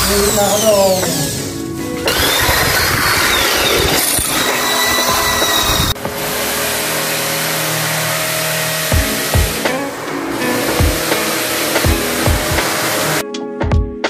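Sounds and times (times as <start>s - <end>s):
power tool whine: 0.0s - 13.2s.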